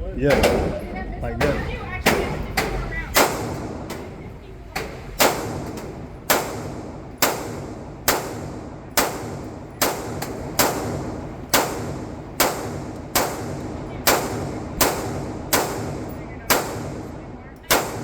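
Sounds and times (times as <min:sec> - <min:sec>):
echoing gunshots: 0:01.5 - 0:04.2, 0:04.9 - 0:18.0.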